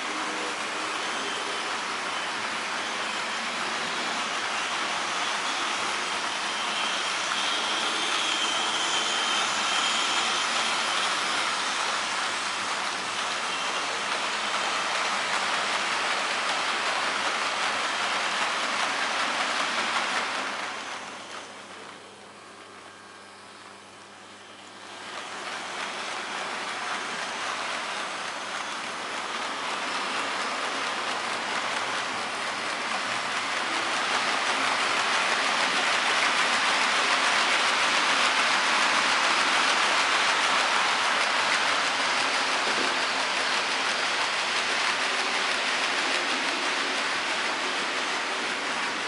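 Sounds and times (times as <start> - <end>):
model train rolling on metal track: 0.0 - 49.0.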